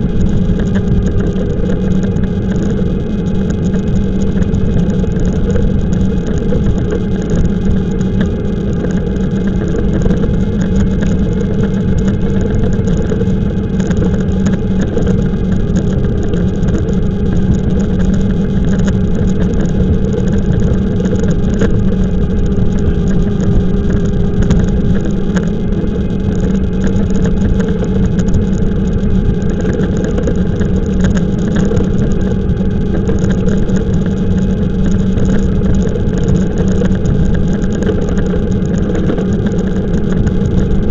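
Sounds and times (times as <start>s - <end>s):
bike rolling noise: 0.0s - 40.9s
steady low hum: 0.0s - 40.9s.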